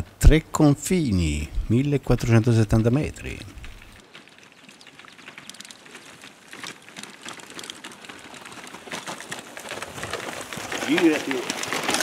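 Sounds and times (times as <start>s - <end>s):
bike tyres clicking and rattling: 1.5s - 12.0s.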